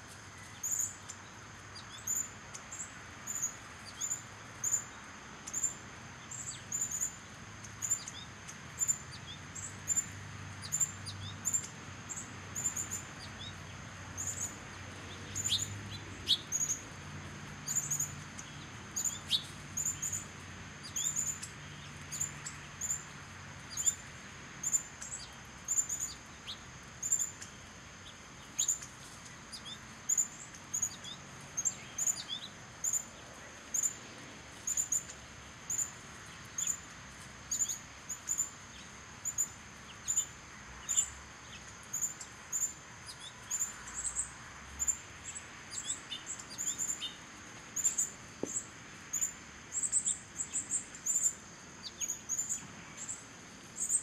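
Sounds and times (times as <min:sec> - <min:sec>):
birds chipping: 0:00.0 - 0:54.0.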